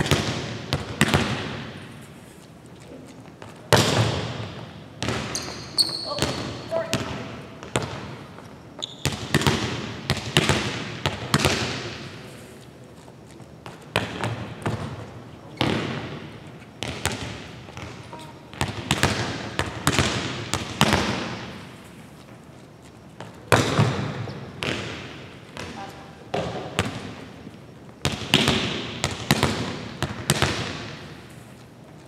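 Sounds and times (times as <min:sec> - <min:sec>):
volleyballs slapping and bouncing: 0:00.0 - 0:02.1, 0:02.8 - 0:12.3, 0:13.6 - 0:21.7, 0:23.2 - 0:31.3.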